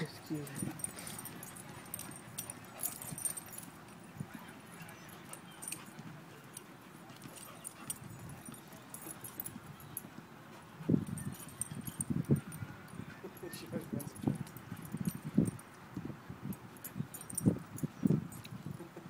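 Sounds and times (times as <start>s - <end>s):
soft dog sounds: 0.0s - 15.8s.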